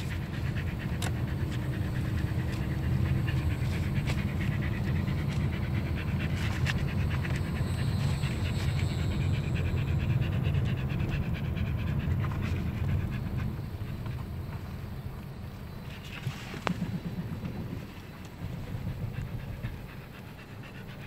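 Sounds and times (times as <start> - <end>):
car driving rumble: 0.0 - 21.0
dog panting: 0.0 - 21.0.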